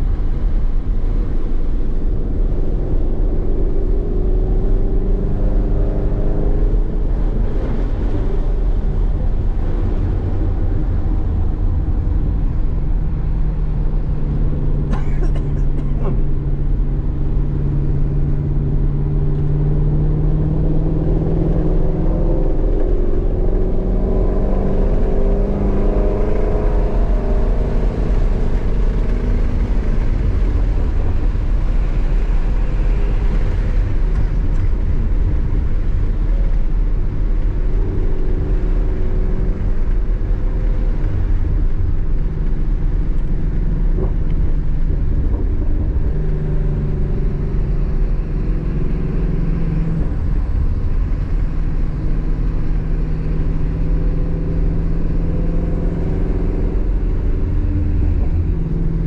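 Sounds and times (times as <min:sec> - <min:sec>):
car engine accelerating: 0:00.0 - 0:59.0
road and wind rumble: 0:00.0 - 0:59.0.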